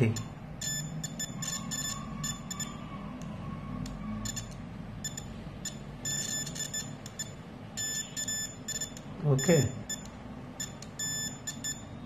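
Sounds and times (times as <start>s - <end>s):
multimeter buzzer stuttering beeps: 0.0s - 2.9s, 4.2s - 12.0s.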